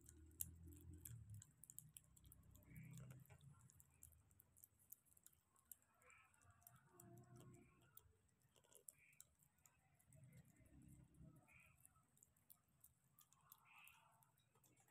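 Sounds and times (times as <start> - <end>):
kitten chewing and lapping food: 0.0 - 14.9.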